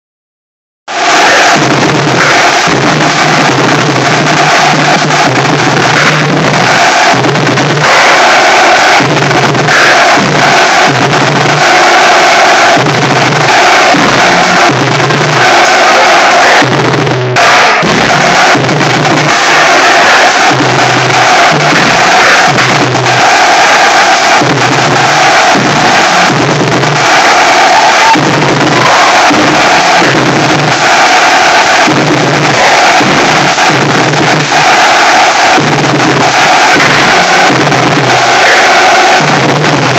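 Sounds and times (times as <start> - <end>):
snare drums rattling: 1.0 - 39.9
deep drum notes: 1.1 - 39.9.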